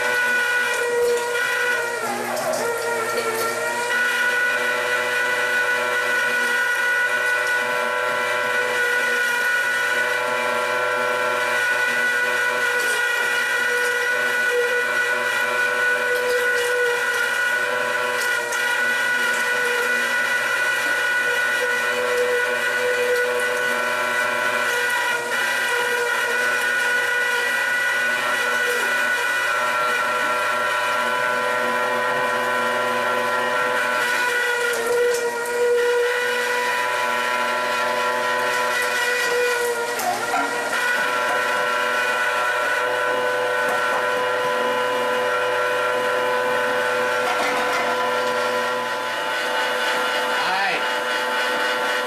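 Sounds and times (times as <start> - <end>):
meat grinder motor whining: 0.0 - 52.0.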